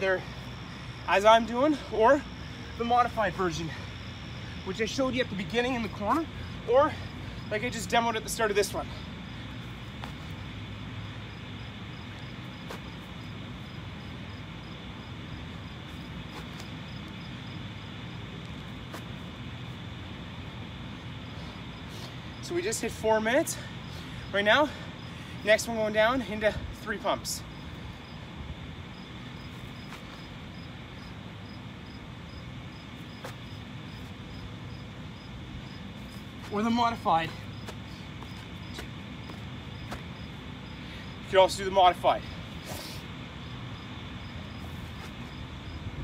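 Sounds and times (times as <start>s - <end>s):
insect chirping: 0.0s - 46.0s
steady low rumble: 0.0s - 46.0s.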